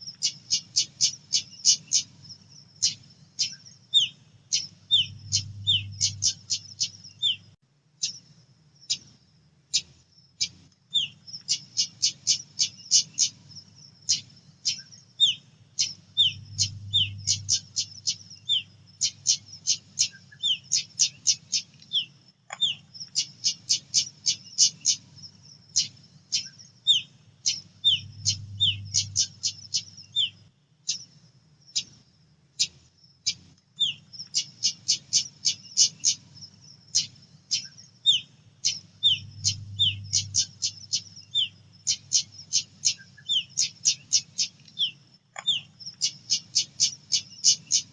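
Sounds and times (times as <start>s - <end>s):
bird chirping calls: 0.0s - 9.1s, 9.7s - 32.0s, 32.6s - 47.9s
faint low hum: 0.0s - 47.8s.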